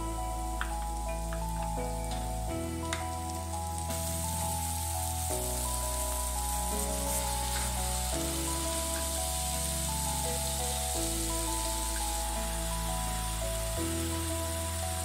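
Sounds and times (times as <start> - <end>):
background music of held chords: 0.0 - 15.0
vegetables sizzling in oil: 0.0 - 15.0.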